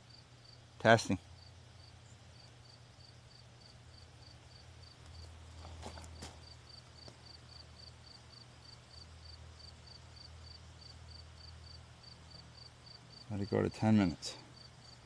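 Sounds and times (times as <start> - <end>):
low steady hum: 0.0 - 15.0
cricket chirping: 1.4 - 13.6, 14.4 - 15.0.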